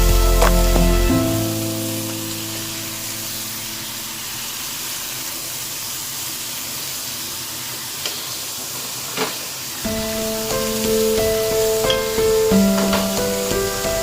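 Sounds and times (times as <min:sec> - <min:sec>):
food sizzling in a frying pan: 0:00.2 - 0:14.0.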